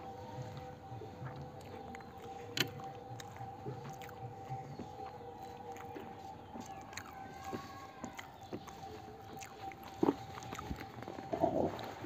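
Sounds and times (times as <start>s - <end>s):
faint steady hum: 0.0s - 12.0s
chewing and lip smacks: 0.3s - 12.0s.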